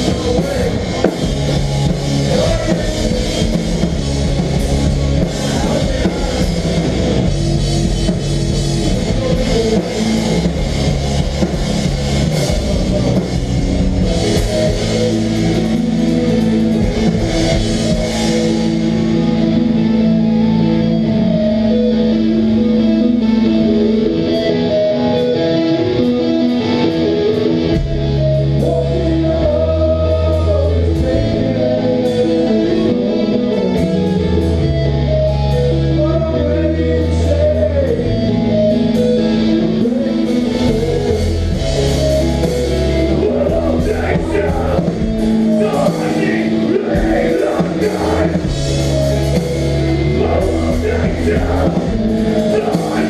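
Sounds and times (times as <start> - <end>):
bass notes: 0.0 - 53.0
electric guitar chords ringing: 0.0 - 53.0.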